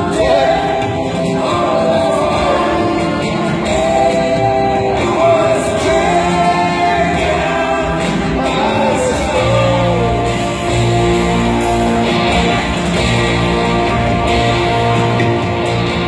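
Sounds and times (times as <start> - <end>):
rock band backing: 0.0 - 16.0.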